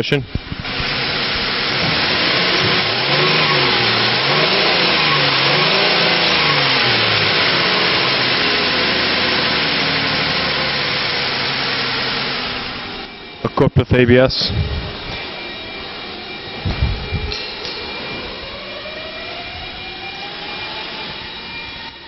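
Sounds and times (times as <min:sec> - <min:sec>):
car engine revving and idling: 0:00.3 - 0:13.6, 0:14.4 - 0:22.0.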